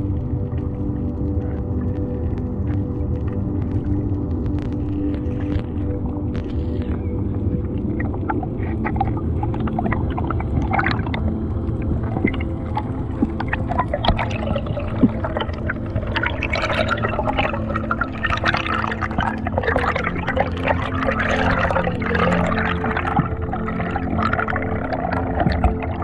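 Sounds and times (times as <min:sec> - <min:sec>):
steady low hum: 0:00.0 - 0:26.0
water rushing and bubbling: 0:00.0 - 0:26.0
small crackling clicks: 0:00.6 - 0:26.0.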